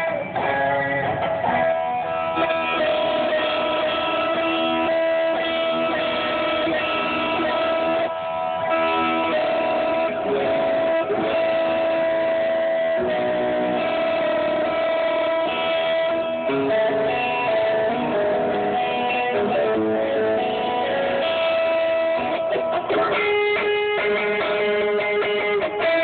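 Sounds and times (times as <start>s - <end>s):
live band with electric guitar: 0.0s - 26.0s.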